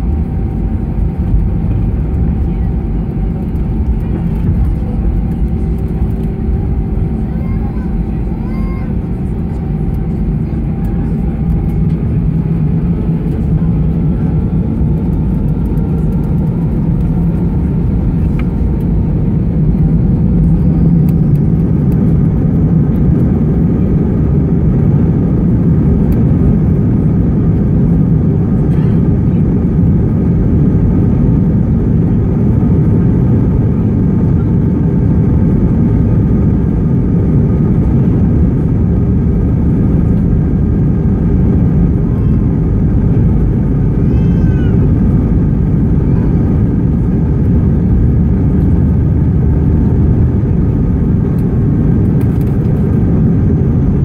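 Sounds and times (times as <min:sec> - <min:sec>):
jet engine rumble in cabin: 0:00.0 - 0:54.0.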